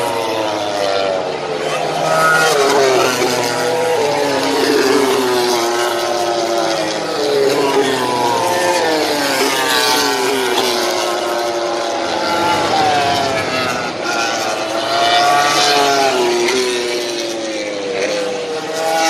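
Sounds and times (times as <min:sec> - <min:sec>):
racing motorcycles passing: 0:00.0 - 0:19.0.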